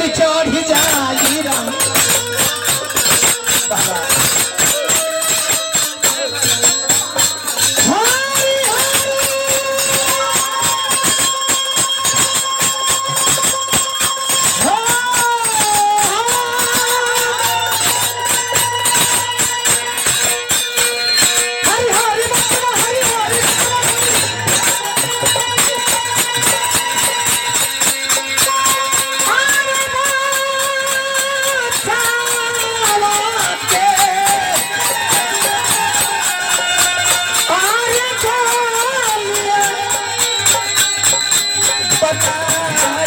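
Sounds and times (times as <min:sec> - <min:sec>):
fast jingling percussion: 0:00.0 - 0:43.0.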